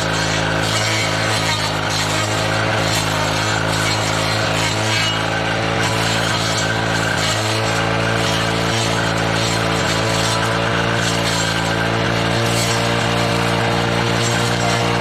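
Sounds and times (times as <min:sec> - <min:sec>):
brushcutter engine running: 0:00.0 - 0:15.0.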